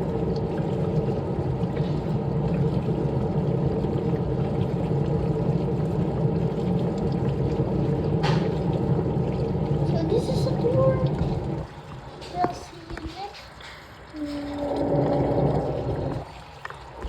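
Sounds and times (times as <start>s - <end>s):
washing machine running: 0.0s - 17.0s
water sloshing in drum: 0.0s - 17.0s.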